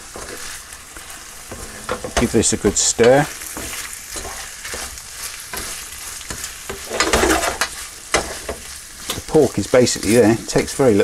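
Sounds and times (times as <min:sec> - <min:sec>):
spatula scraping a pan: 0:00.0 - 0:10.8
meat sizzling in a pan: 0:00.0 - 0:11.0.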